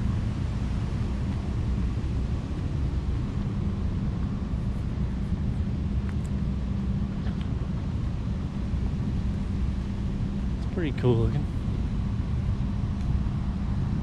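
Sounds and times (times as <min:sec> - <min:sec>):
constant low hum: 0:00.0 - 0:14.0
low outdoor rumble: 0:00.0 - 0:14.0.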